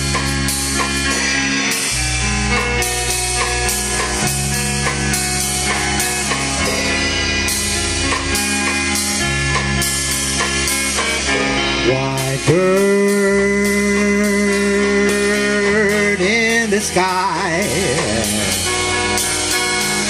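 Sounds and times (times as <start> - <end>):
bass guitar: 0.0 - 20.0
drum kit: 0.0 - 20.0
guitar: 0.0 - 20.0.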